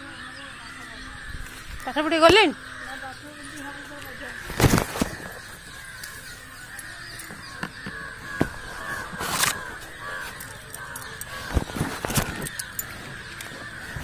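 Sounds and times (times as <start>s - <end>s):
crows cawing: 0.0s - 14.0s.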